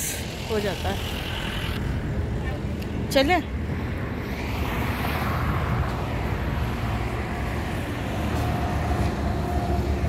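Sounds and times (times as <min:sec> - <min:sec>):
traffic low rumble: 0:00.0 - 0:10.0.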